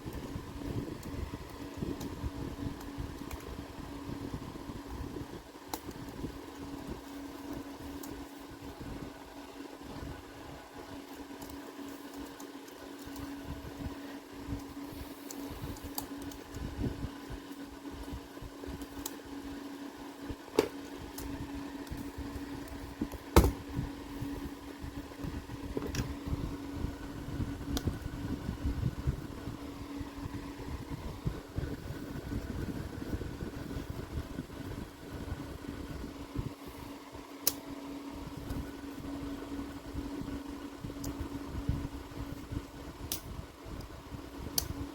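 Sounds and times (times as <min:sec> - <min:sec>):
fan humming: 0:00.0 - 0:44.9.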